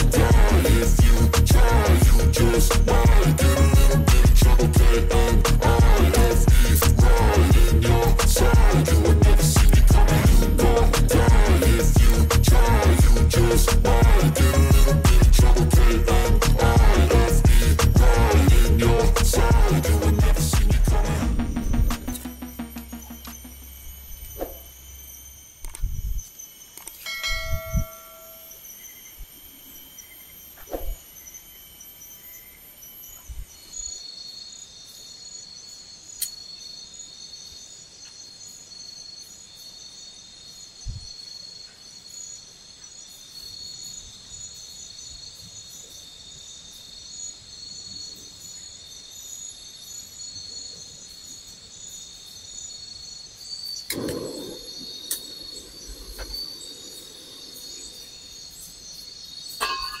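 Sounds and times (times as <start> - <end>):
insects trilling: 0.0 - 60.0.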